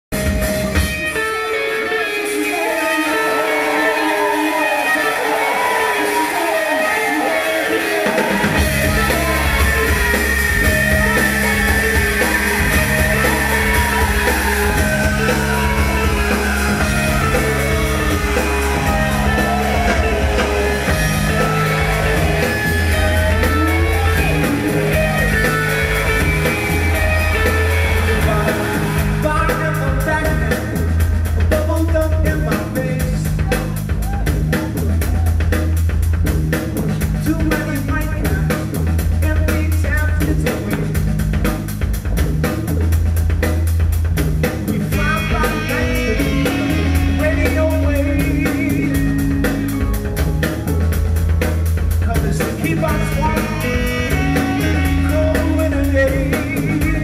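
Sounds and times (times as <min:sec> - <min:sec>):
bass line: 0:00.0 - 0:01.6, 0:02.6 - 0:57.0
drums: 0:00.0 - 0:57.0
guitar: 0:00.1 - 0:57.0.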